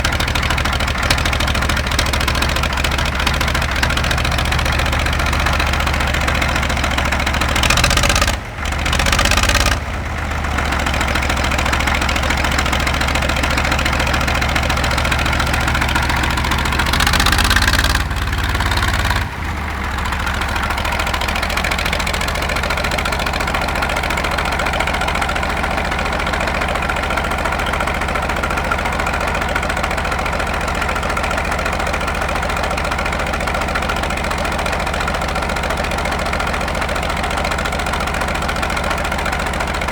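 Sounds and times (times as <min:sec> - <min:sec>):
crawler tractor engine running: 0:00.0 - 0:39.9.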